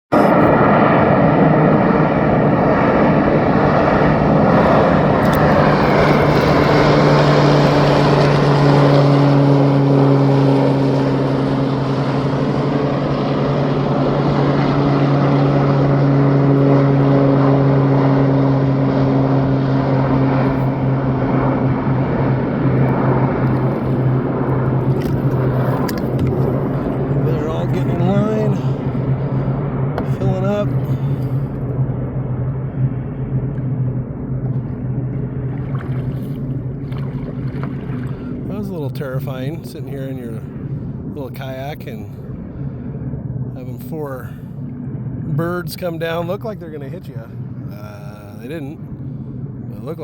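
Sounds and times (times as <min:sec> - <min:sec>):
propeller airplane engines droning: 0:00.1 - 0:50.0.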